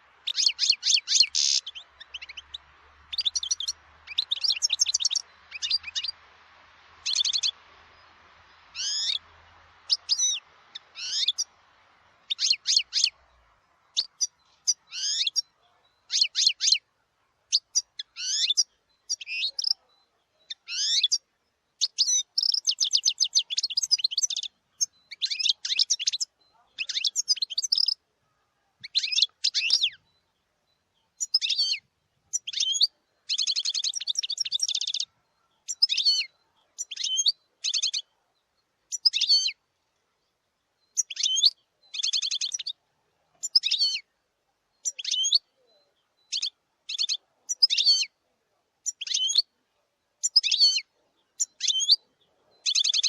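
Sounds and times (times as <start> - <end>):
goldfinch singing: 0.0 - 44.1, 44.8 - 48.2, 48.8 - 49.6, 50.2 - 53.0.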